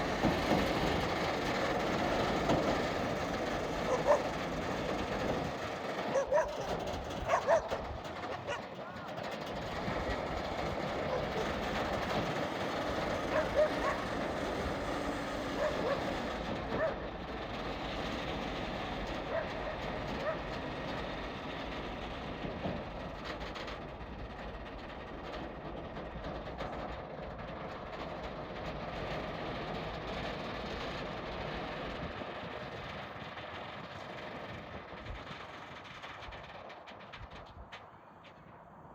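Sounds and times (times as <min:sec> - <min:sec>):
diesel engine and rolling wagons rumble: 0:00.0 - 0:38.9.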